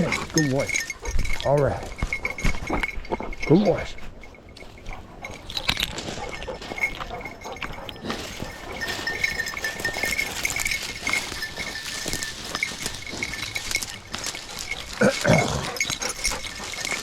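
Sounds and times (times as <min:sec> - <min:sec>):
dogs moving about: 0:00.0 - 0:17.0
rustles and clicks: 0:00.0 - 0:17.0.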